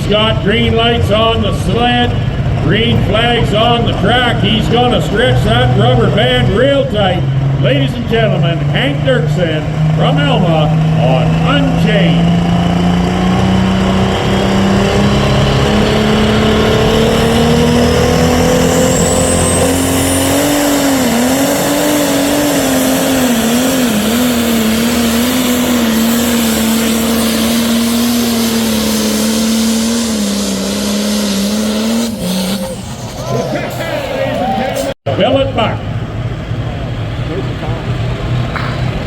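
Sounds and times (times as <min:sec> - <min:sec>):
diesel engine at full power: 0:00.0 - 0:39.0.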